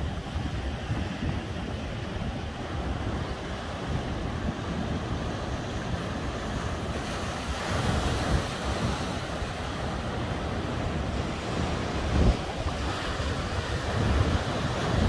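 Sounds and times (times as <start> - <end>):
ocean surf washing ashore: 0.0 - 15.0
wind rumbling on microphone: 0.0 - 15.0.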